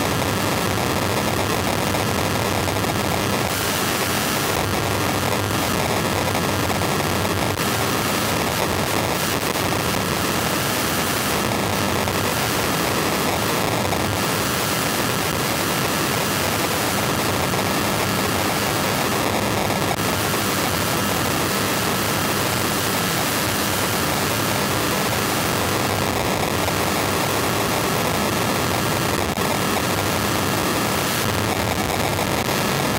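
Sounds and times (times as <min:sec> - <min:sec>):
dense radio detector hiss: 0:00.0 - 0:32.9.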